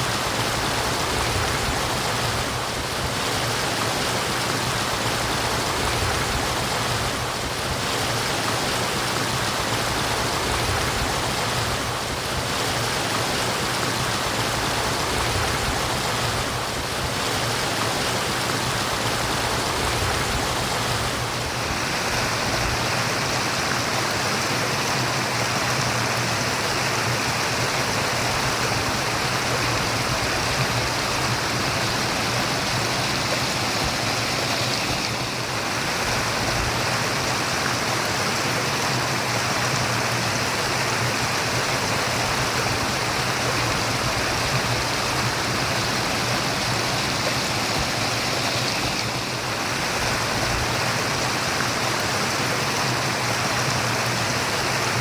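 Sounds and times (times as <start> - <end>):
stream flowing and burbling: 0.0 - 55.0.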